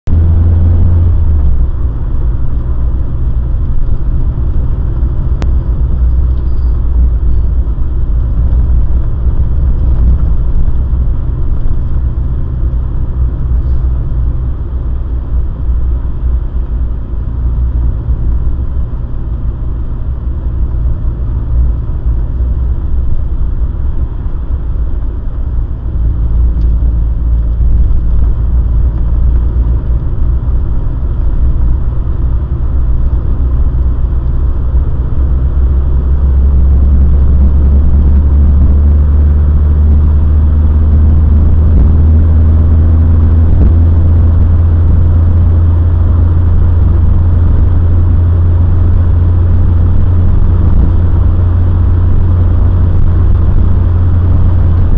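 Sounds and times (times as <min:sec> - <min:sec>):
car engine rumbling: 0:00.0 - 0:54.9
road noise: 0:00.0 - 0:54.9.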